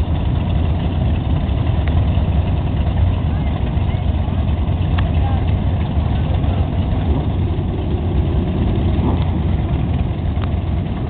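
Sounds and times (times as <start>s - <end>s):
motorcycles idling: 0.0s - 11.0s.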